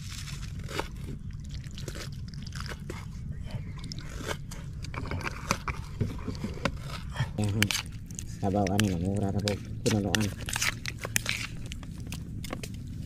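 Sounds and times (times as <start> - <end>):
chewing: 0.0 - 13.0
steady low rumble: 0.0 - 13.0.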